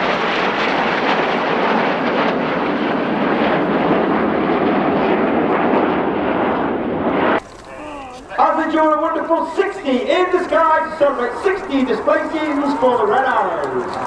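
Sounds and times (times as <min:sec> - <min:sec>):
jets flying overhead: 0:00.0 - 0:14.0.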